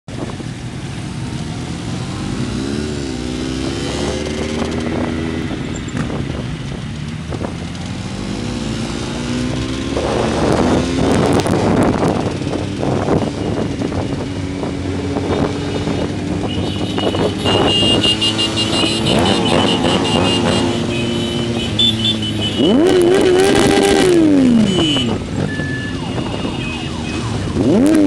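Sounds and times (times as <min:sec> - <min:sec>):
motorcycle engines revving: 0:00.1 - 0:28.0.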